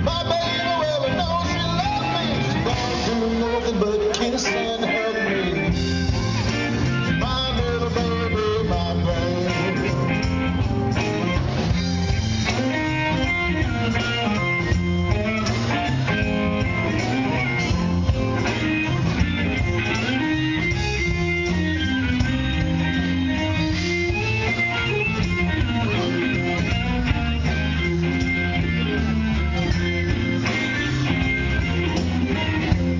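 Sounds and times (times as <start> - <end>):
bass and drums: 0.0 - 32.9
electric guitar: 0.0 - 32.9.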